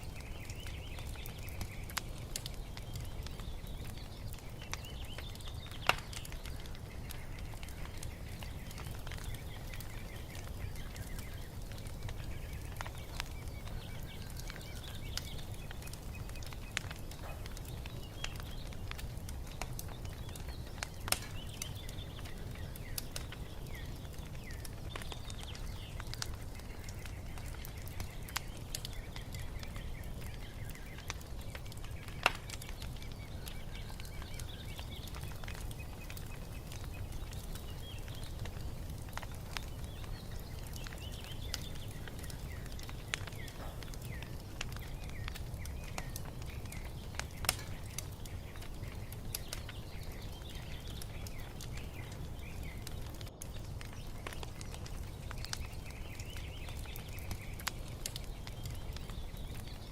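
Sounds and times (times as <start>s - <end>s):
birds chirping faintly: 0.0s - 59.9s
wood fire crackling: 0.0s - 59.9s.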